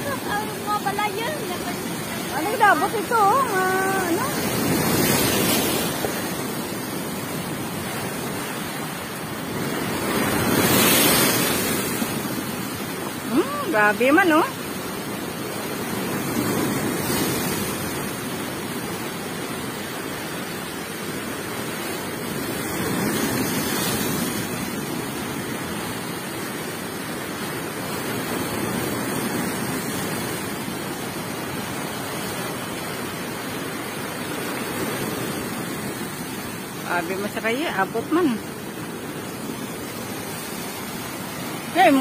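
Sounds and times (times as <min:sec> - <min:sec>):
rough surf breaking: 0:00.0 - 0:42.0.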